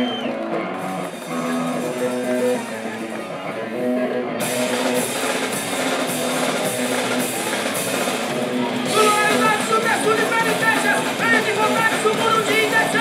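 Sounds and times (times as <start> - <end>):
drums and cymbals: 0.0 - 13.0
electric guitar riff: 0.0 - 13.0.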